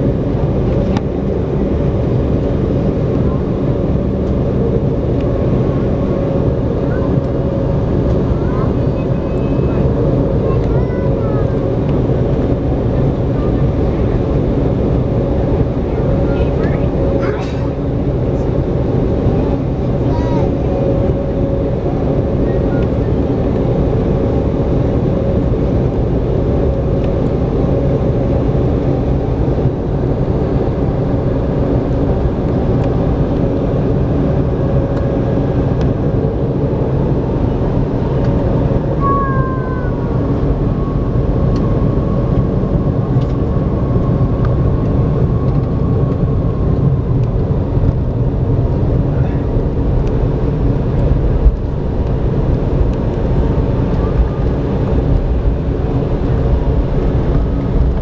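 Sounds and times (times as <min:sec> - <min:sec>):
airliner rolling rumble: 0:00.0 - 0:58.0
jet engines running steadily: 0:00.0 - 0:58.0.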